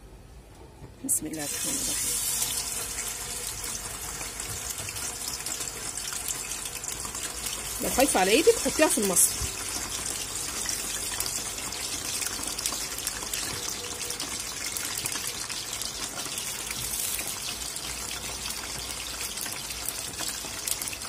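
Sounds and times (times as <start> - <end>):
potatoes sizzling in hot oil: 1.2 - 21.0.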